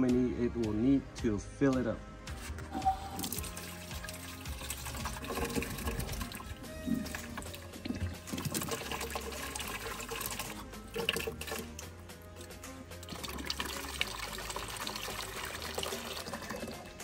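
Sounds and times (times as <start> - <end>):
background music: 0.0 - 17.0
water splashing into reservoir: 3.1 - 17.0.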